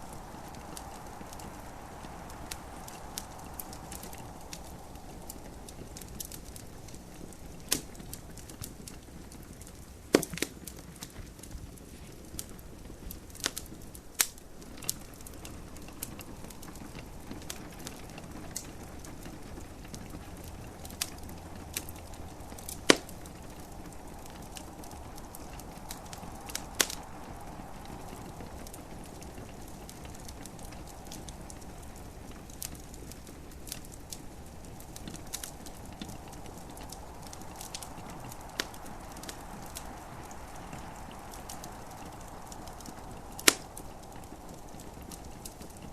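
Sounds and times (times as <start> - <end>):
gentle rain hiss: 0.0 - 45.9
wood fire crackling and popping: 0.0 - 45.9.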